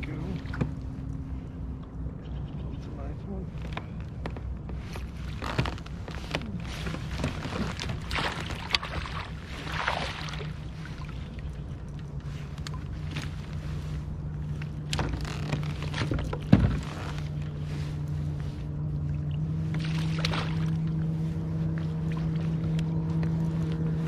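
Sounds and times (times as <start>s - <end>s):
water splashing and sloshing: 0.0s - 2.1s, 3.5s - 24.0s
steady low hum: 0.0s - 24.0s.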